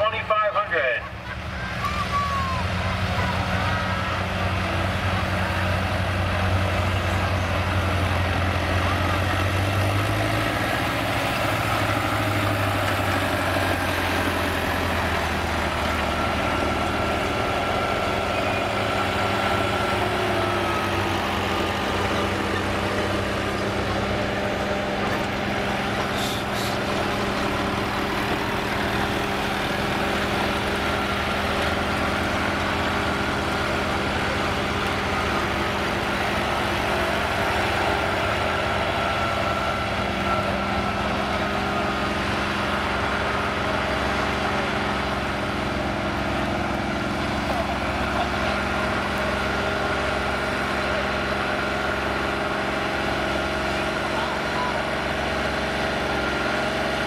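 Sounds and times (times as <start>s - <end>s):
tractor engines idling: 0.0s - 57.0s.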